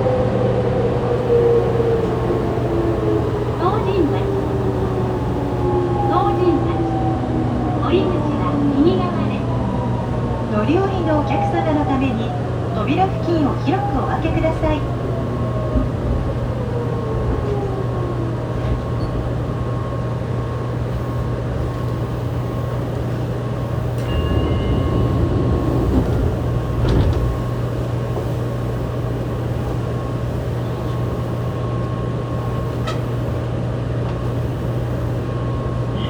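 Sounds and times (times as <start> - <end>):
train doors opening rumble: 0.0 - 36.0
train steady hum: 0.0 - 36.0.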